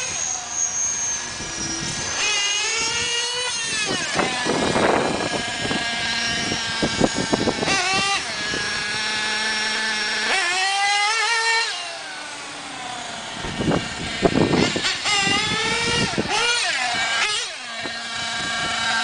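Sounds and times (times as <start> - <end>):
model helicopter motor whine: 0.0 - 19.0.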